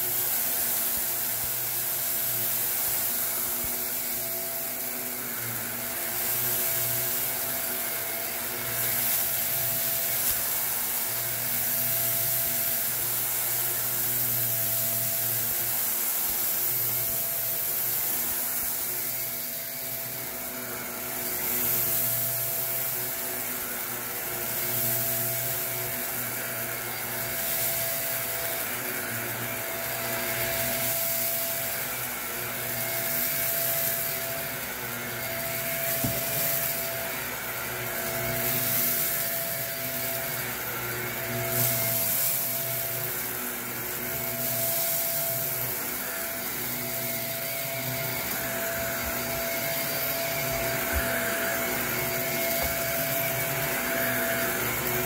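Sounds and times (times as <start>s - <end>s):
vacuum cleaner motor whine: 0.0s - 55.0s.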